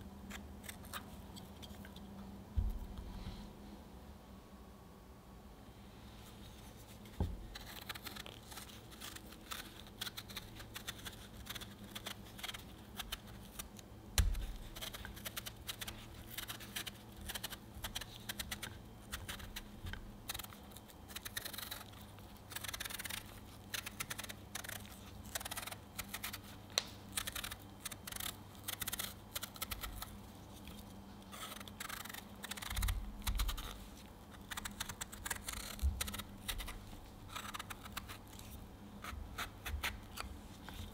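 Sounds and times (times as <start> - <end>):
knife scraping peel off fruit: 0.3 - 3.0, 6.9 - 40.9.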